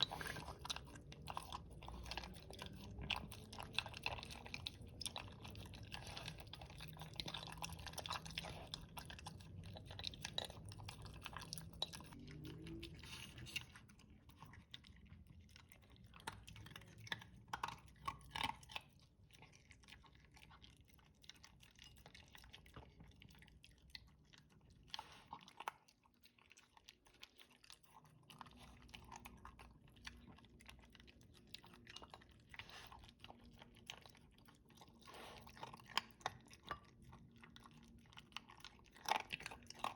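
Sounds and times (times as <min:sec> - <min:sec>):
dog chewing food: 0:00.0 - 0:39.9.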